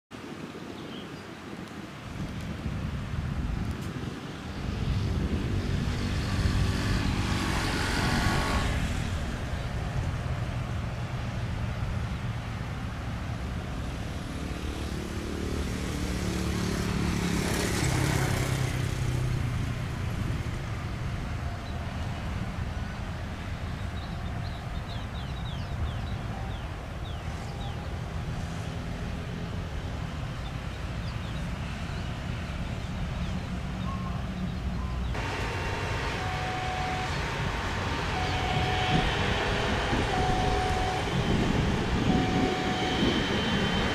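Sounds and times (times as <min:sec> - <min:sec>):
vehicles passing: 0:01.8 - 0:43.9
low engine rumble: 0:04.4 - 0:43.9.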